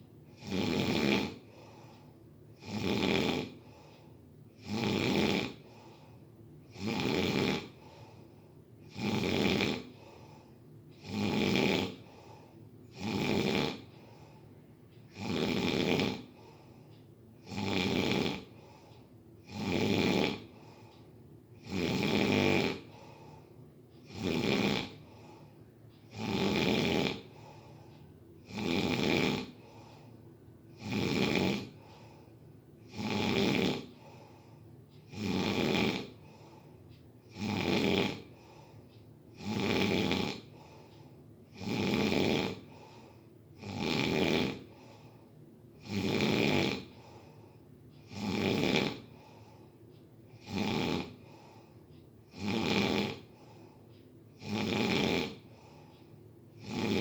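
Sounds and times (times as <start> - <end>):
quiet breathing: 0.0 - 57.0
person snoring: 0.3 - 4.0, 4.6 - 8.2, 8.8 - 14.4, 15.1 - 16.8, 17.4 - 20.9, 21.6 - 25.5, 26.1 - 30.1, 30.7 - 36.7, 37.3 - 45.2, 45.8 - 49.6, 50.3 - 53.8, 54.4 - 55.9, 56.6 - 57.0.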